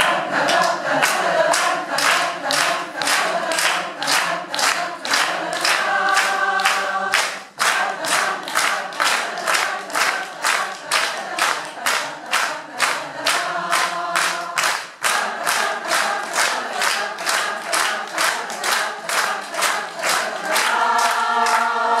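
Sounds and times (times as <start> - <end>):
choir singing: 0.0 - 22.0
hand-clapping in time: 0.0 - 22.0.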